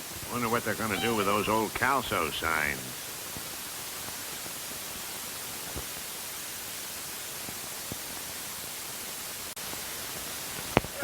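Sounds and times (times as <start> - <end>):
recording hiss and static: 0.0 - 11.0.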